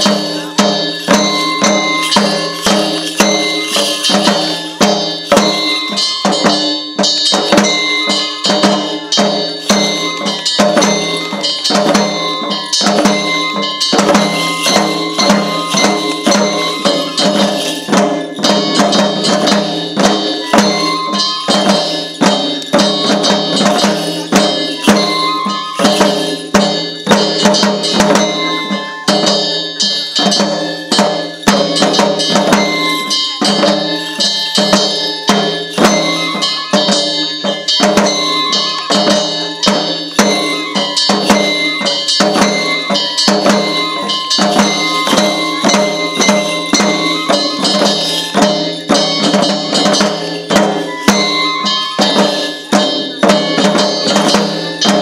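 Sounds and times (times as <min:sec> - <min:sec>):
clanging metal percussion: 0:00.0 - 0:55.0
short ringing high notes: 0:00.0 - 0:55.0
taiko drum beating: 0:00.0 - 0:55.0.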